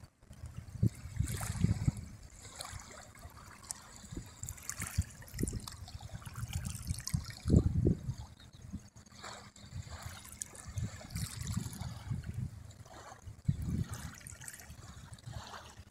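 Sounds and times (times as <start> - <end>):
water lapping on shore: 0.0 - 15.9.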